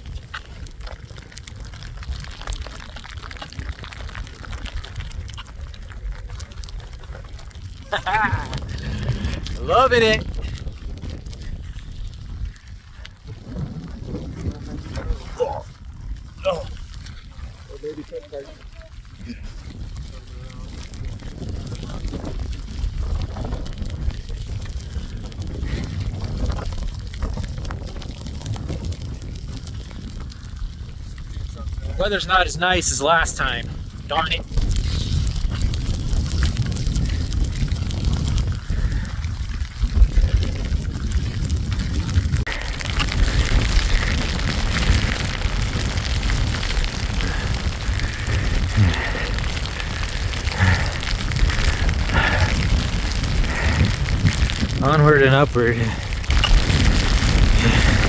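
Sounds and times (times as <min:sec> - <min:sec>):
small irregular ticks and crunches: 0:00.0 - 0:58.0
wind buffeting microphone: 0:00.0 - 0:58.0.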